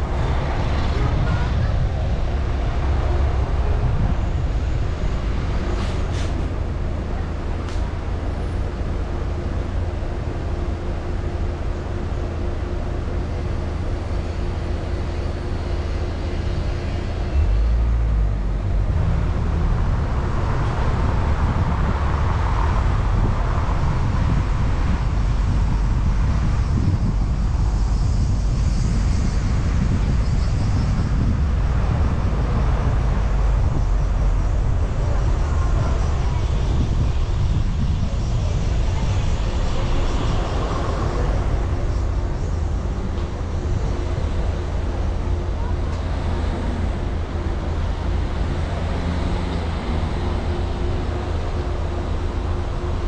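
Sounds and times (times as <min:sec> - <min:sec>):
broad rushing noise: 0:00.0 - 0:53.0
car engine and road rumble: 0:00.0 - 0:53.0.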